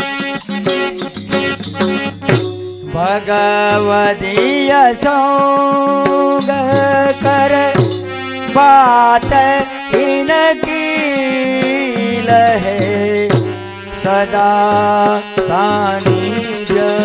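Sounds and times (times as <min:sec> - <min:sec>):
instrumental accompaniment with percussion: 0:00.0 - 0:17.0.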